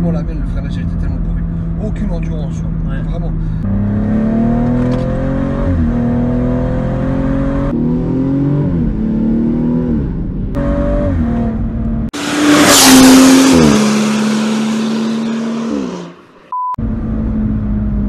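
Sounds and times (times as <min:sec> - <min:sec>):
harsh engine with rush of noise: 0:00.0 - 0:18.0
car engine accelerating: 0:00.1 - 0:18.0.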